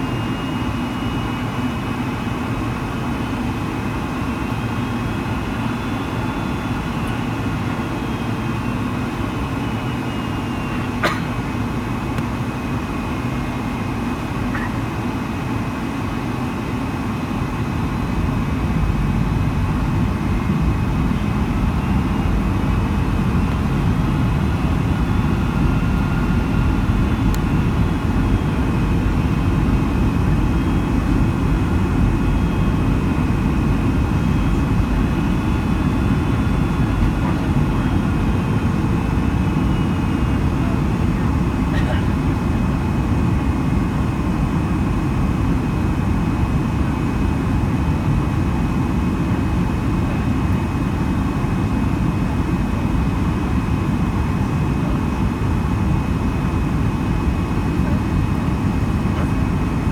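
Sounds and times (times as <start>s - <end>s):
high engine whine: 0.0s - 59.9s
jet engine roar in cabin: 0.0s - 59.9s.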